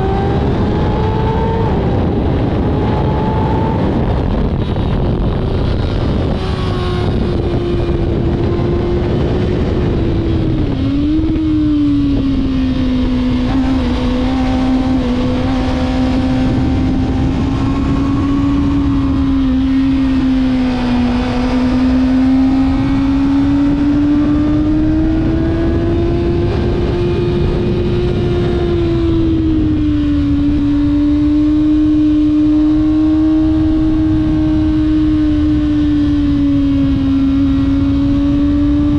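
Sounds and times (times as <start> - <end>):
motorcycle engine at high revs: 0.0 - 38.9
wind rush on microphone: 0.0 - 38.9.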